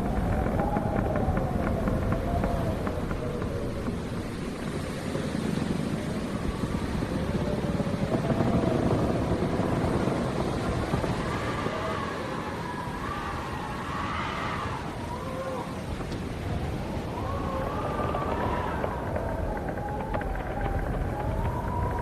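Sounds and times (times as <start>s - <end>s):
howling wind gusting: 0.0s - 22.0s.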